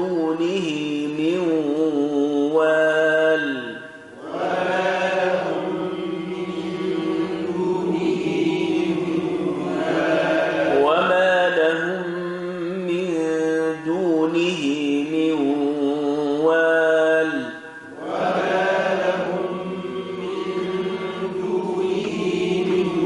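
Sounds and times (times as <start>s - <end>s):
men chanting melodically: 0.0s - 23.0s.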